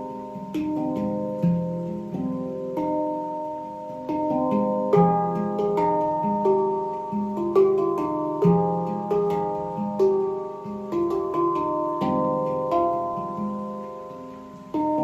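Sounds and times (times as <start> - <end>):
handpan melody: 0.0 - 15.0.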